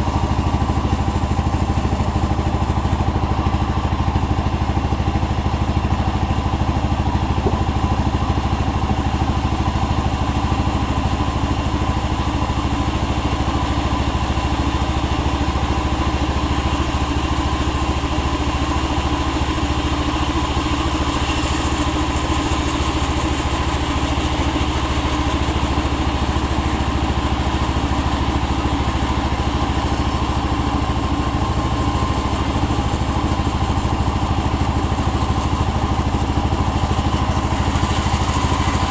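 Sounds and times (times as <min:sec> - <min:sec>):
power saw engine running: 0:00.0 - 0:38.9.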